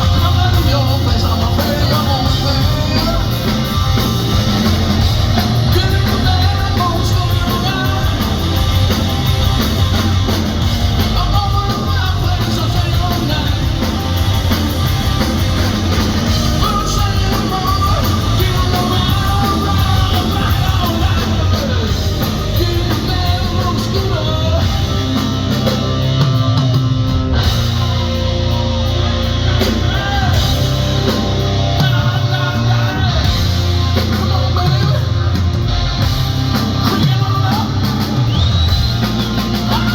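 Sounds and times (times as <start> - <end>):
lead singer singing: 0.0 - 39.9
live rock band playing: 0.0 - 39.9.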